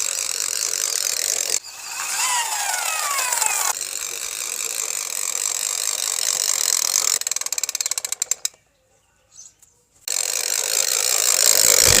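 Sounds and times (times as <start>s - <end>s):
toy gear mechanism whirring: 0.0s - 8.6s, 10.1s - 12.0s.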